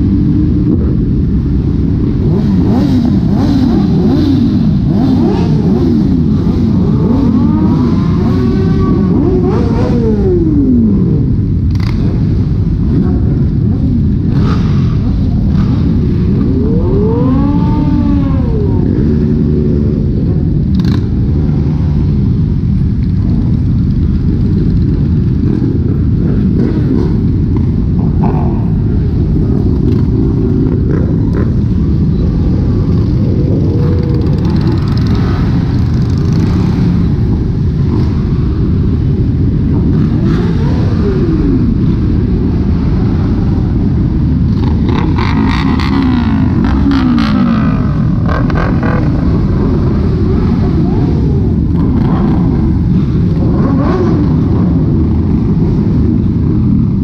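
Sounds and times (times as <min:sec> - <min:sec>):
motorcycle engines revving: 0:00.0 - 0:57.0
motorcycle engines running loud: 0:00.0 - 0:57.0.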